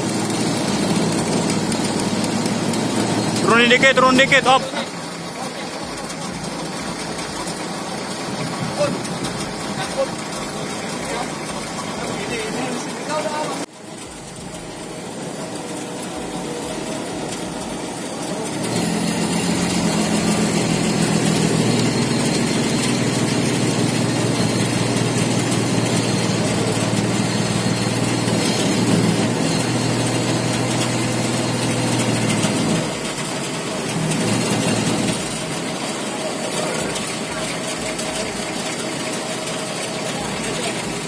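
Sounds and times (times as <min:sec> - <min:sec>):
forklift engine revving: 0:00.0 - 0:41.0.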